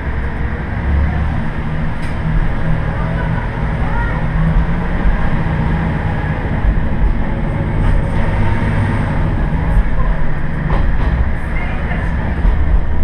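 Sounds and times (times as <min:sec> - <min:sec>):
diesel railcar engine rumbling: 0:00.0 - 0:13.0
train wheels on rails: 0:00.0 - 0:13.0.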